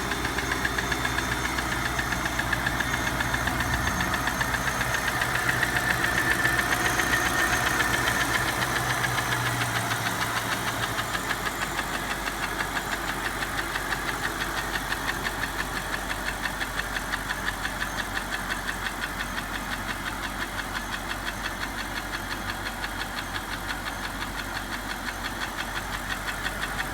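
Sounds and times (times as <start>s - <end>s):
engine running: 0.0s - 26.9s.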